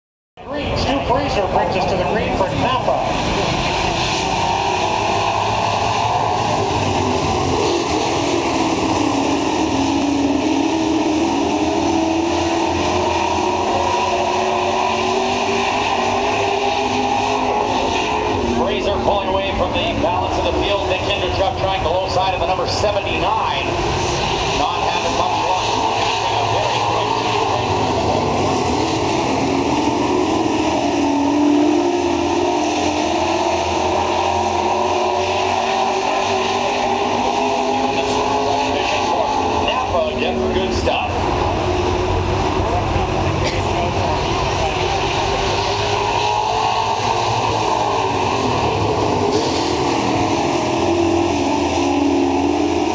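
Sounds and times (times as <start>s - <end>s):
racing truck engines: 0.4s - 52.9s.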